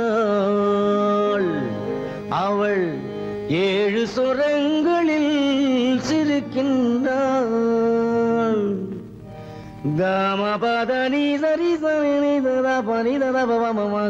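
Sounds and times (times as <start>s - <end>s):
sliding wordless melody: 0.0s - 14.0s.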